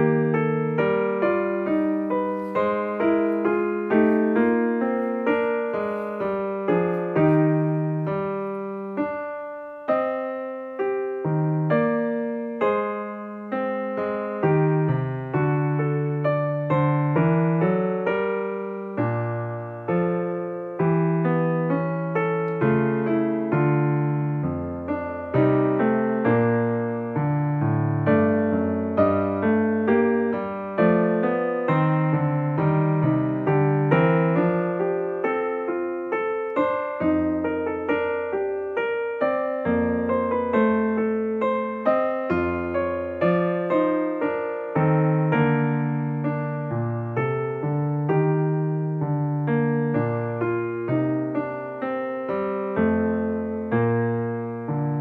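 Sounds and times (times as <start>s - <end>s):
solo piano piece: 0.0s - 55.0s.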